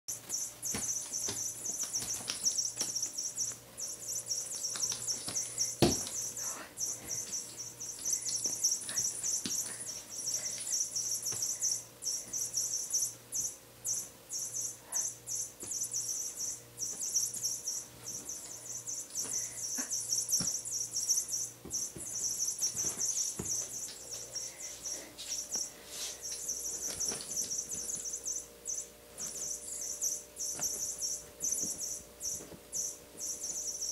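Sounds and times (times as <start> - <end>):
insects chirping trill: 0.1 - 33.9.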